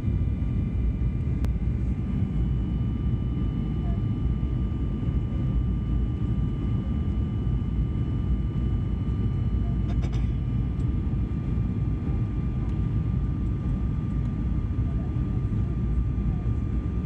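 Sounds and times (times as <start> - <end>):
airplane cabin engine roar: 0.0 - 17.0
faint steady whine: 0.0 - 17.0.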